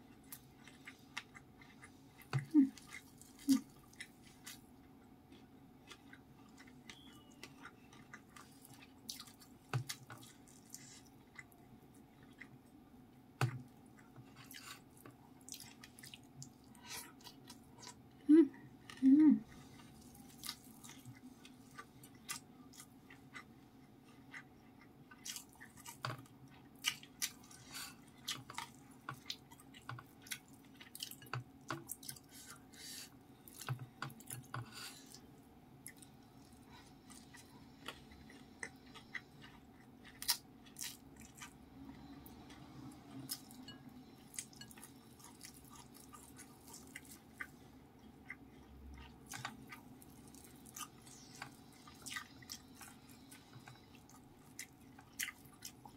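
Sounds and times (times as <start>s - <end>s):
chewing with mouth clicks: 0.0s - 12.7s, 13.4s - 18.2s, 18.8s - 32.7s, 33.4s - 55.9s
soft crunches of chewing: 0.0s - 12.8s, 13.4s - 55.9s.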